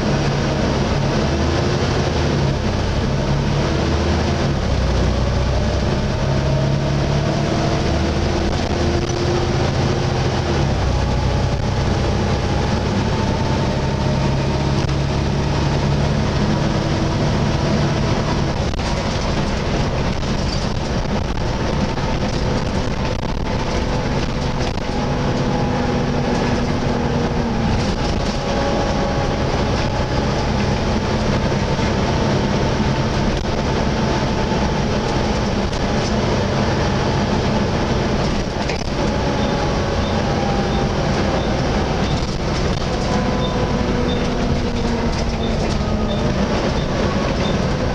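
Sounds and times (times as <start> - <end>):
bus diesel engine whining: 0.0 - 47.9.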